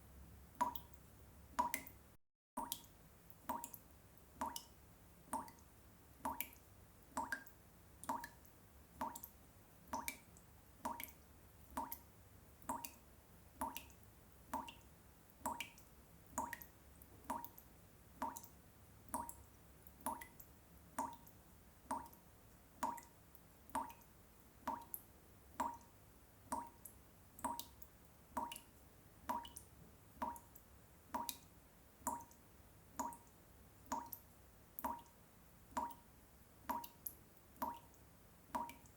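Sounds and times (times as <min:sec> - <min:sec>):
water drops plinking into water: 0:00.5 - 0:02.0, 0:02.6 - 0:13.0, 0:13.6 - 0:22.2, 0:22.8 - 0:25.0, 0:25.6 - 0:25.9, 0:26.5 - 0:31.5, 0:32.1 - 0:32.4, 0:33.0 - 0:36.0, 0:36.7 - 0:38.9.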